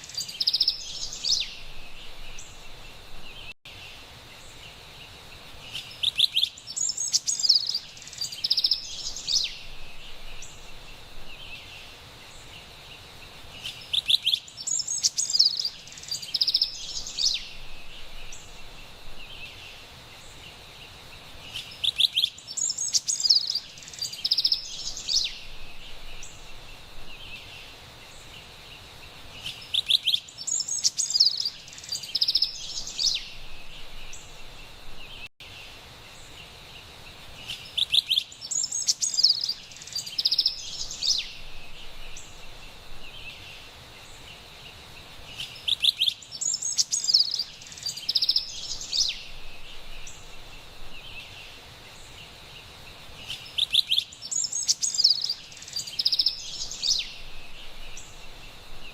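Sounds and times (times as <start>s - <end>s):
wren singing: 0.0s - 3.6s, 5.6s - 12.8s, 13.5s - 20.4s, 21.4s - 35.3s, 37.4s - 58.9s
high hiss of forest background: 0.0s - 58.9s.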